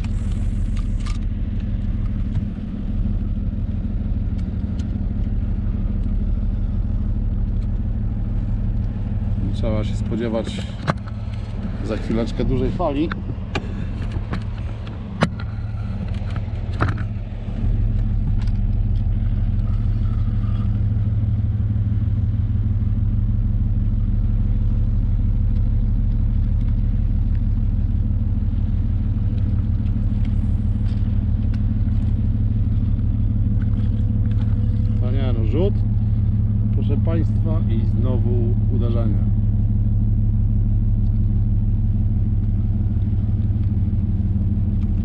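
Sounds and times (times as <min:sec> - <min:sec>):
low engine drone: 0:00.0 - 0:45.0.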